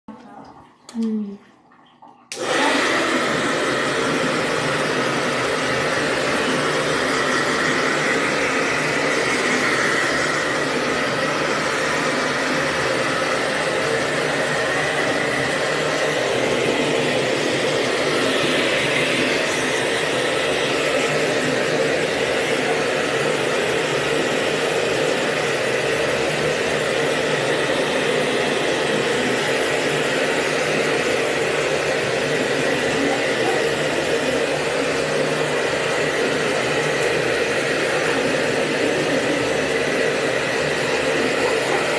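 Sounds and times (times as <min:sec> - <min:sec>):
hair dryer running: 0:02.3 - 0:41.9.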